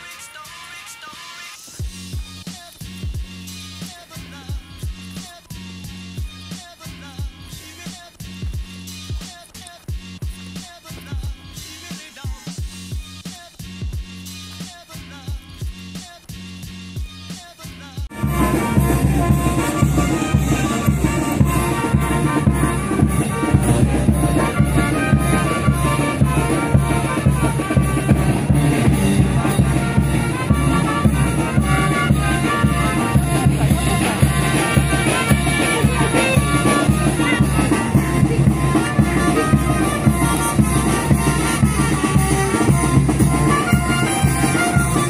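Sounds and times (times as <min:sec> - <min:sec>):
brass band playing dance music: 0:00.0 - 0:45.0.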